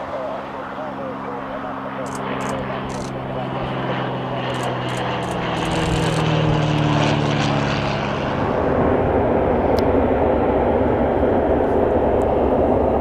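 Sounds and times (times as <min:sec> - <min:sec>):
propeller aircraft drone: 0:00.0 - 0:13.0.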